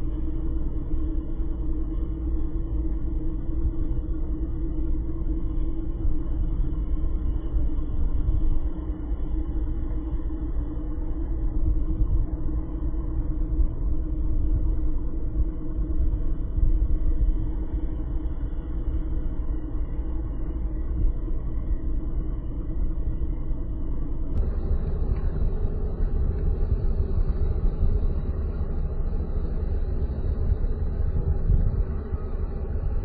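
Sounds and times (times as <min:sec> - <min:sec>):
constant hum: 0:00.0 - 0:33.0.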